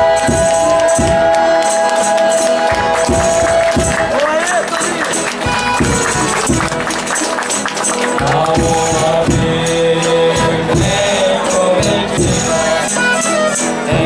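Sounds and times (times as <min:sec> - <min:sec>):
drum beat: 0:00.0 - 0:14.0
held instrument notes: 0:00.0 - 0:14.0
tambourine jingling: 0:00.0 - 0:14.0.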